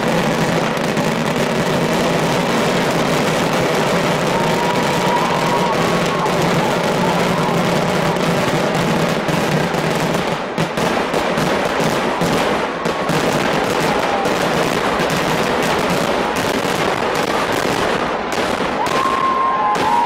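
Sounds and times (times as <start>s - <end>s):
fireworks barrage: 0.0s - 20.0s.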